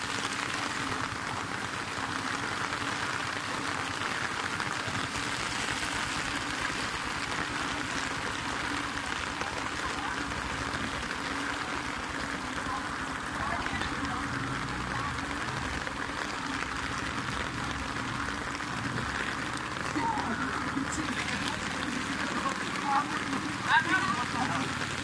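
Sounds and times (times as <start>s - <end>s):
moving floodwater: 0.0s - 25.0s
rain hissing: 0.0s - 25.0s.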